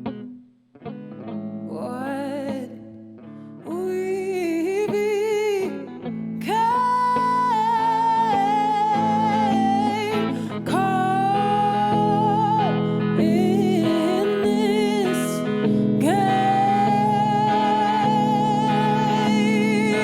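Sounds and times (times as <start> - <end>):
guitar accompaniment: 0.0 - 20.0.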